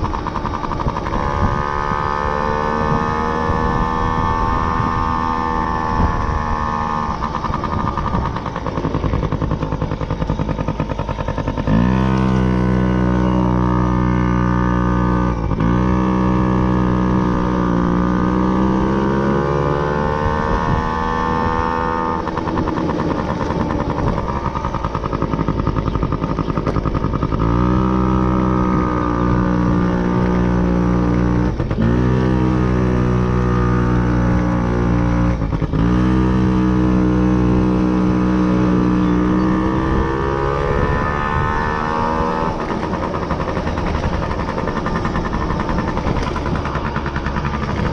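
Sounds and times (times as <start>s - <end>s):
motorcycle engine revving: 0.0s - 47.9s
wind and road noise: 0.0s - 47.9s.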